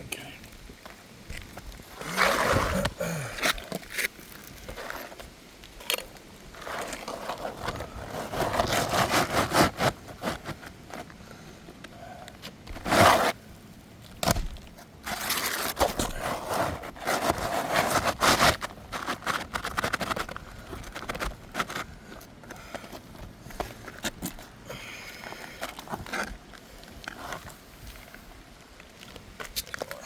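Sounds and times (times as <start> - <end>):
pry bar scraping under shingles: 1.3 - 11.2, 12.4 - 13.4, 14.2 - 27.6.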